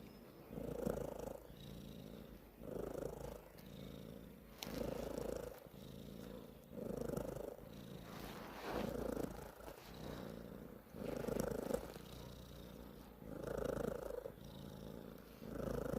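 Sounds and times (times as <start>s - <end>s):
cat purring: 0.0s - 15.9s.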